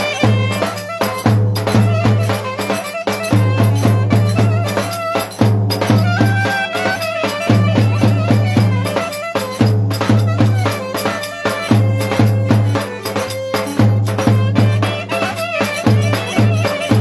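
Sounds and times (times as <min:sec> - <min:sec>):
folk dance band music: 0:00.0 - 0:17.0
heavy regular drum beat: 0:00.0 - 0:17.0.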